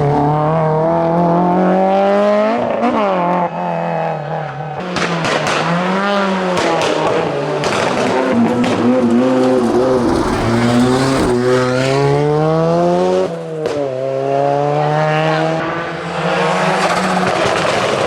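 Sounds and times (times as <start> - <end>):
rally car engine accelerating: 0.0 - 18.0.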